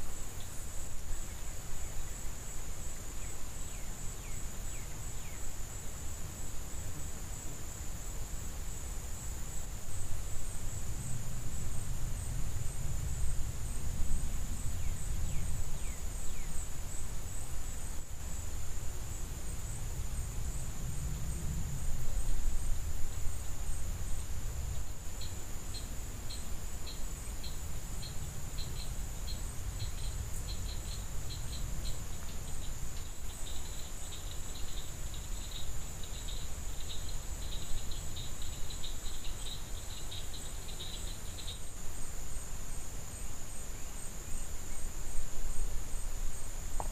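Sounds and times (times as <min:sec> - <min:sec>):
insects chirping rapidly: 0:00.0 - 0:46.9
insects droning: 0:00.0 - 0:46.9.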